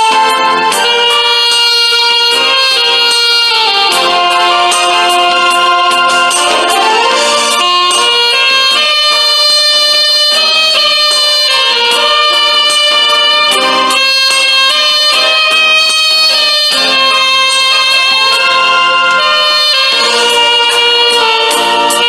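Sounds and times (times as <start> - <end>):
alto saxophone melody: 0.0 - 22.0
instrumental accompaniment: 0.0 - 22.0.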